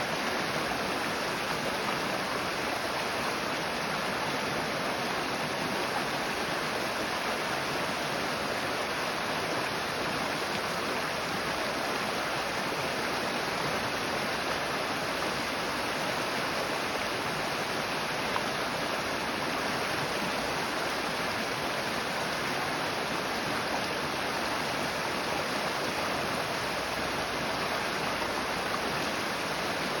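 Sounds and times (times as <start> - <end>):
creek water rushing over rocks: 0.0 - 30.0.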